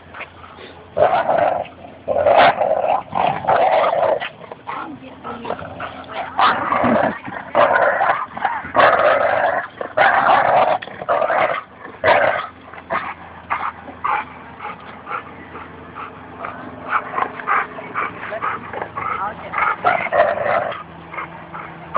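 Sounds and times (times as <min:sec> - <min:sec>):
dog play-growling: 0:00.0 - 0:21.9.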